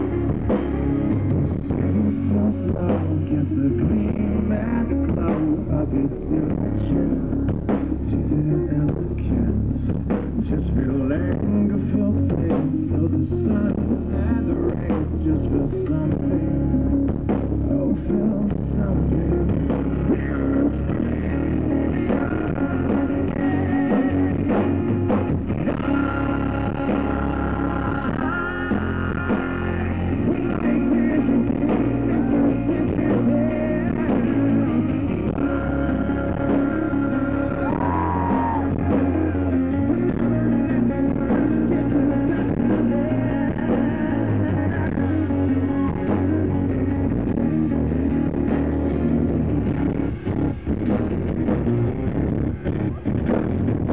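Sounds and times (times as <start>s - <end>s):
man singing: 0.0s - 49.1s
rock band playing: 0.0s - 53.9s.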